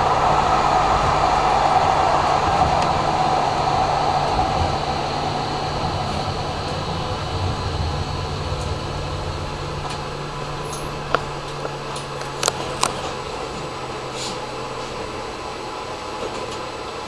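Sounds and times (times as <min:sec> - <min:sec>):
tram hum and rumble: 0:00.0 - 0:17.0.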